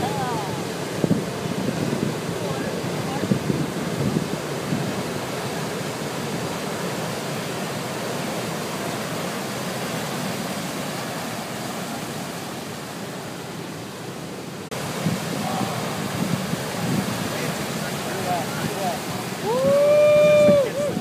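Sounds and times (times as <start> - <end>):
heavy surf breaking on rocks: 0.0 - 21.0.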